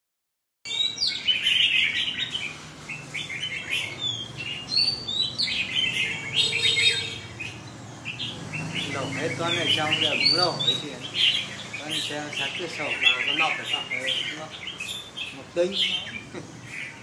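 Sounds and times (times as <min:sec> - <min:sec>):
bulbuls chirping and whistling: 0:00.7 - 0:17.0.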